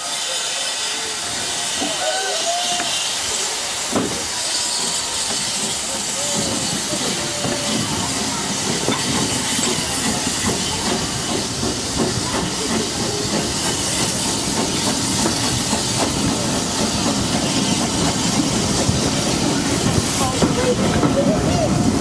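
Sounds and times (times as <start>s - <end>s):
steam locomotive hissing: 0.0s - 22.0s
train wheels clicking: 0.2s - 22.0s.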